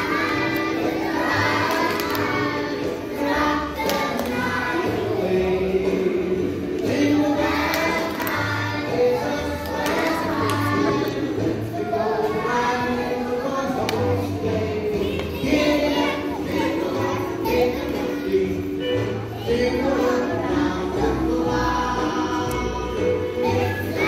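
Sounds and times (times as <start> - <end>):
backing music with bass line: 0.0 - 24.0
children singing: 0.0 - 24.0.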